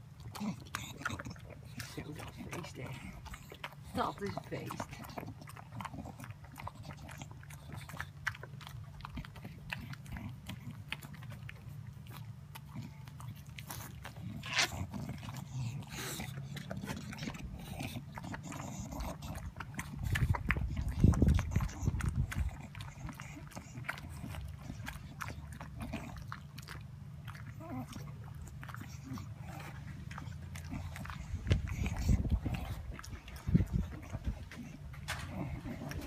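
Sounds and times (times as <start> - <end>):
dog licking and chewing: 0.0 - 36.0.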